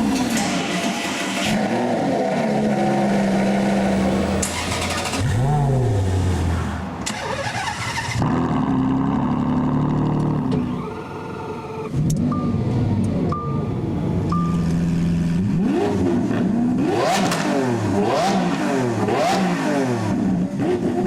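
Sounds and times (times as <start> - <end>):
supercar engine revving: 0.0 - 13.0, 14.8 - 21.0.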